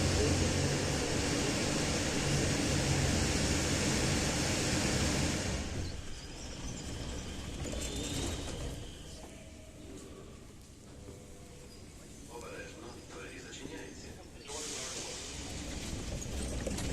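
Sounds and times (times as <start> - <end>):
metro car running noise: 0.0 - 16.9.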